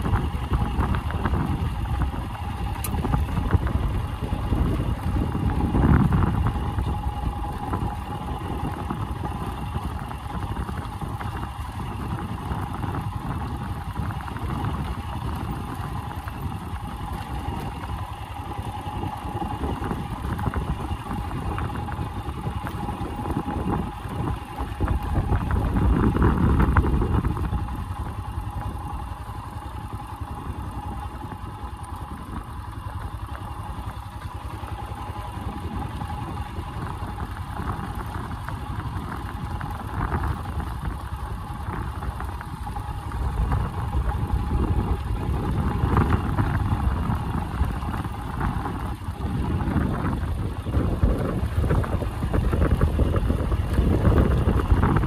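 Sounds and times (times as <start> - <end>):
motorcycle engine rumbling: 0.0 - 55.0
tyres on gravel: 0.0 - 55.0.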